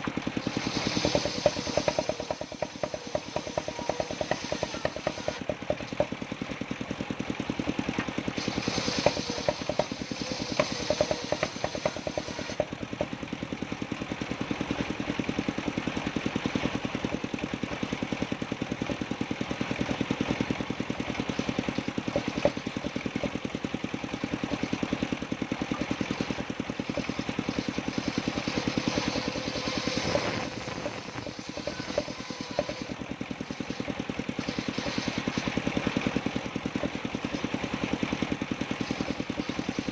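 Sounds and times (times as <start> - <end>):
sawmill engine knocking: 0.0 - 39.9.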